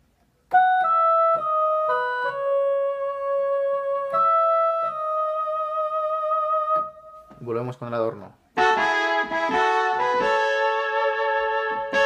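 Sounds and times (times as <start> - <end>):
electronic keyboard melody: 0.1 - 7.6, 8.5 - 12.0.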